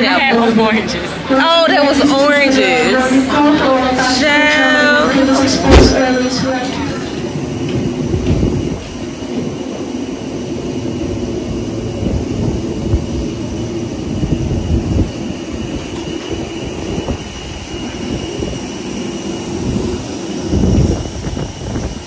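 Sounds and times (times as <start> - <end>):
jet engine rumble: 0.1 - 22.0.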